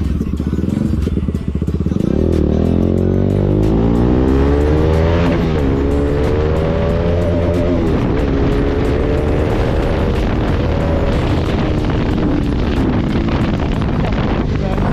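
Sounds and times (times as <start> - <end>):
motorcycle engine accelerating: 0.0 - 14.9.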